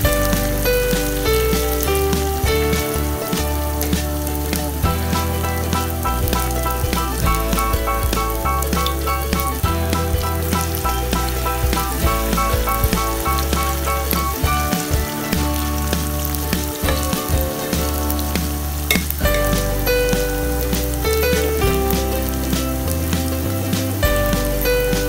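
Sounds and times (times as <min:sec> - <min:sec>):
background music with bass: 0:00.0 - 0:25.0
fritters sizzling in oil: 0:00.0 - 0:25.0.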